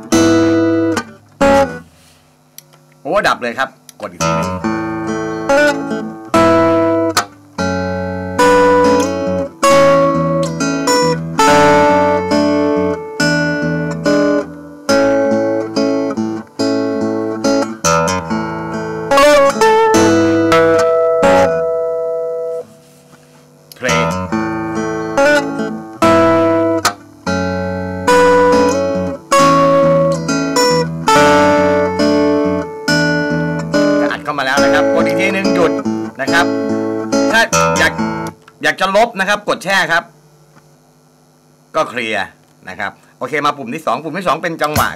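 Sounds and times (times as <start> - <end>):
looped guitar phrase: 0.0 - 1.9, 3.1 - 40.1
acoustic guitar chords: 0.0 - 2.7, 3.8 - 39.1, 44.6 - 44.9.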